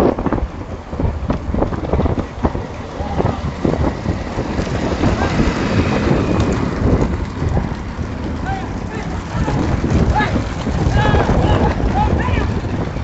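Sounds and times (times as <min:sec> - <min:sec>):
heavy wind buffeting microphone: 0:00.0 - 0:13.0.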